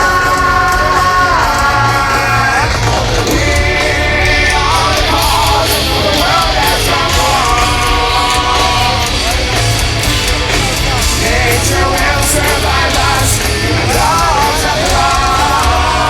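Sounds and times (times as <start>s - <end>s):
person singing: 0.0s - 9.7s, 10.5s - 16.0s
heavy drums and cymbals: 0.0s - 16.0s
heavy rock band playing: 0.0s - 16.0s.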